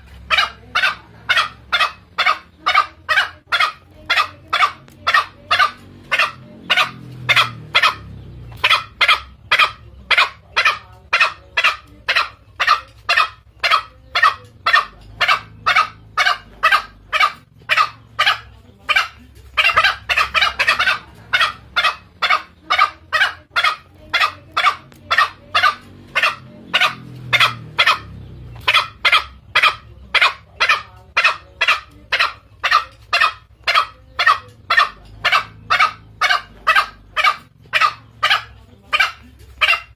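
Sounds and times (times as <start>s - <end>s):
junglefowl calls: 0.0s - 39.9s.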